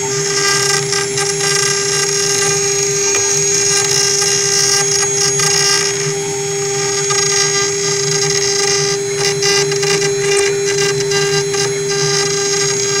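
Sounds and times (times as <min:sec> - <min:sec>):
bit cutting into wood: 0:00.0 - 0:13.0
router spindle whine: 0:00.0 - 0:13.0.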